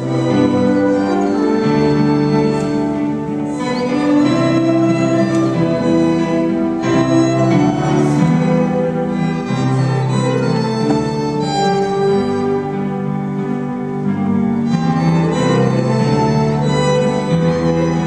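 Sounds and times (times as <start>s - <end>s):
violins and clarinet playing: 0.0s - 18.0s.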